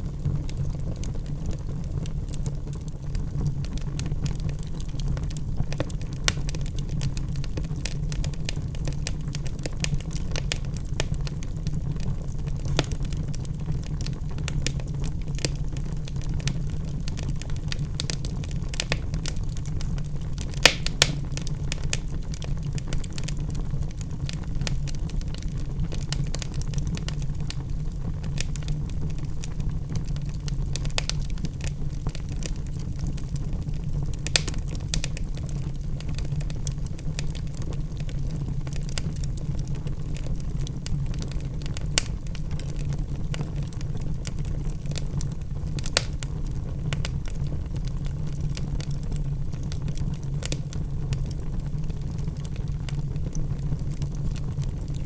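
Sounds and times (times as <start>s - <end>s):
fire crackles and pops: 0.0s - 55.0s
logs burning in fireplace: 0.0s - 55.0s.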